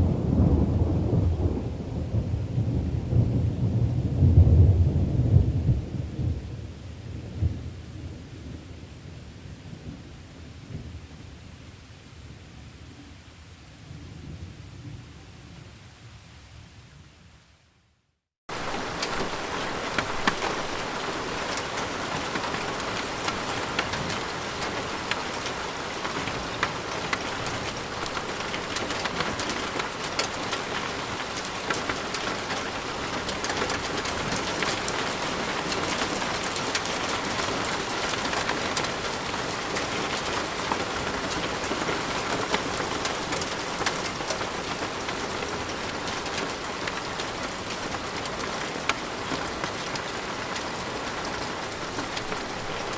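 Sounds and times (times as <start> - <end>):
heavy rain: 0.0 - 17.6, 18.5 - 52.9.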